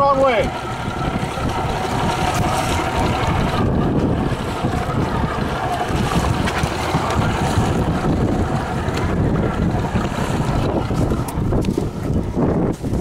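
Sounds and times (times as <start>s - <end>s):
paddles splashing water: 0.0s - 13.0s
wind rumble on microphone: 0.0s - 13.0s.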